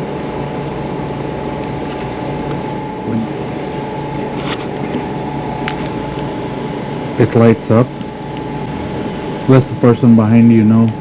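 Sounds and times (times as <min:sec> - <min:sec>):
constant high whine: 0:00.0 - 0:11.0
steady mechanical hum: 0:00.0 - 0:11.0.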